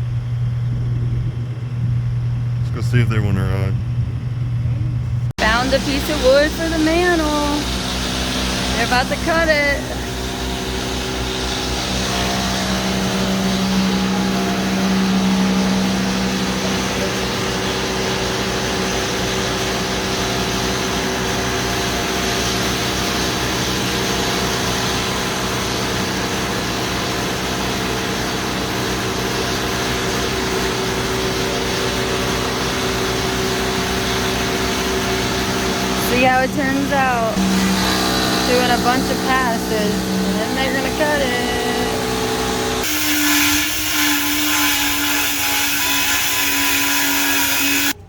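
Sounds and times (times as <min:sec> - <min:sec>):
woodworking planer running: 0:05.4 - 0:48.0.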